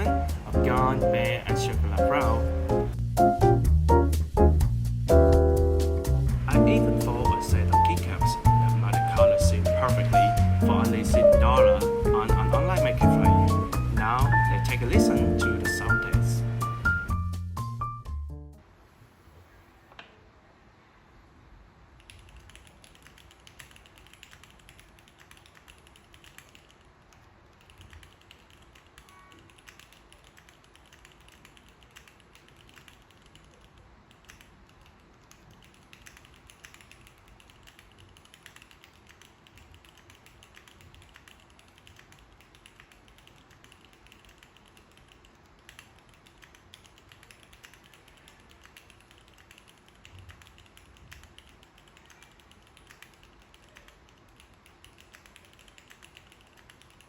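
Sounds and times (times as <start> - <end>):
mechanical keyboard typing: 0.0 - 2.5, 6.5 - 17.0, 22.0 - 57.0.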